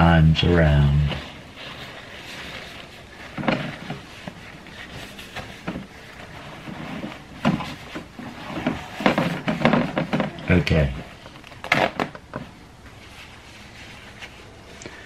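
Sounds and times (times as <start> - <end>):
paper towel rustling: 0.4 - 15.0.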